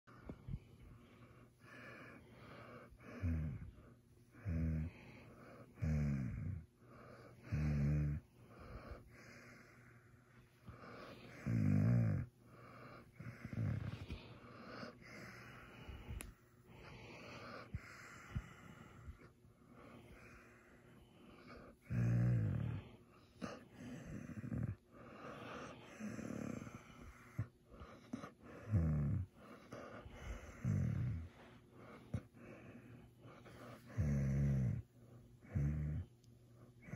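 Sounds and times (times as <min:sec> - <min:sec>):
soft breathing: 0:00.0 - 0:36.9.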